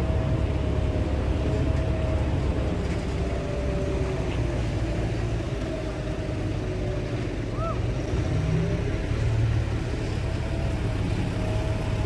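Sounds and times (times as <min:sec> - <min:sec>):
diesel machinery engine rumble: 0:00.0 - 0:12.0.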